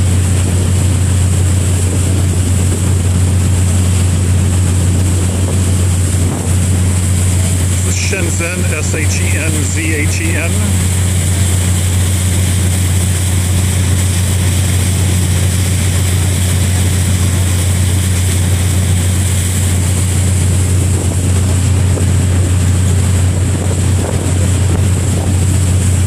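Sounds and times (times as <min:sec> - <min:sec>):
ferry engine drone: 0:00.0 - 0:26.0
wind and water rushing: 0:00.0 - 0:26.0.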